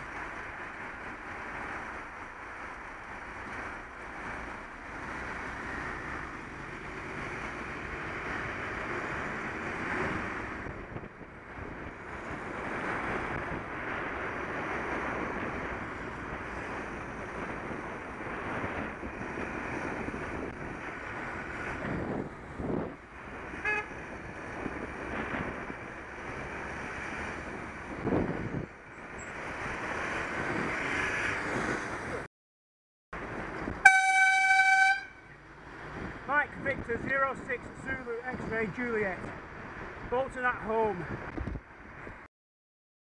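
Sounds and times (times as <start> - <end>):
road traffic: 0.0 - 32.3, 33.1 - 42.3
wind rushing over microphone: 0.0 - 32.3, 34.9 - 42.3.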